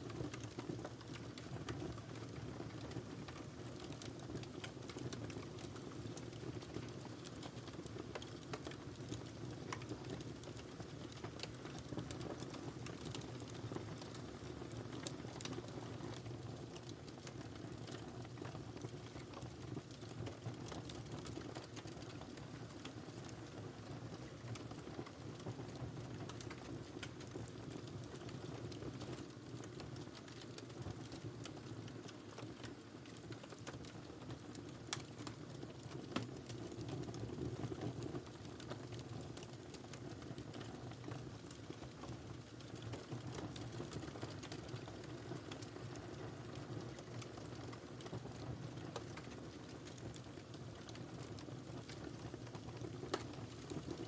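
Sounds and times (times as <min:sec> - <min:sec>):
wood fire crackling: 0:00.0 - 0:54.0
fire pops and snaps: 0:00.1 - 0:54.0.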